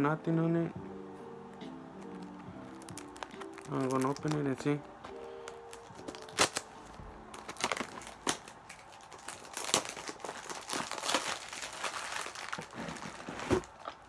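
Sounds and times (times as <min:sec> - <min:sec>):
plastic wrap crinkling and tearing: 0:02.0 - 0:14.0.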